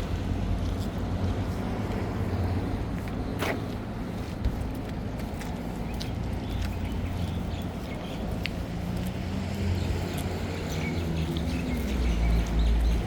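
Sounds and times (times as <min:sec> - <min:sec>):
street traffic rumble: 0:00.0 - 0:13.0
vehicle rumbling: 0:00.0 - 0:13.0.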